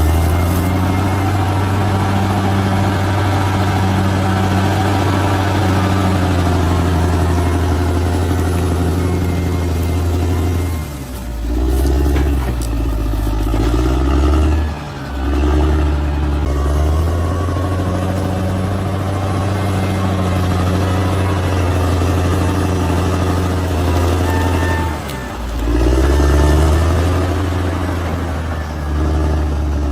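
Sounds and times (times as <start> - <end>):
bulldozer diesel engine running: 0.0 - 29.9.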